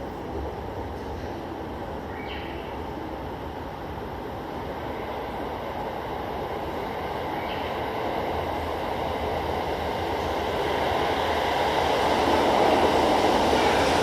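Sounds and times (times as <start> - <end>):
train rumbling through station: 0.0 - 14.0.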